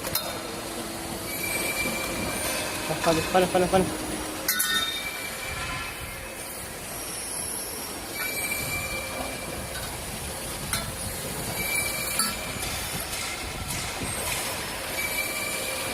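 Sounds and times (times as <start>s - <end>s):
tube bending machine running: 0.0s - 15.9s
high metallic squeals: 1.2s - 15.9s.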